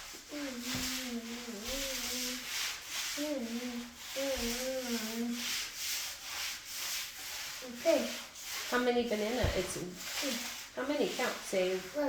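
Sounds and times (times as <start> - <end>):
rhythmic rubbing scraping: 0.0 - 12.0.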